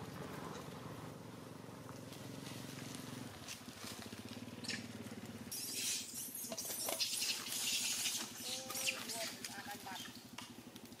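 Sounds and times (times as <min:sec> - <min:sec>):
monkeys rustling over dry leaves: 0:02.0 - 0:11.0.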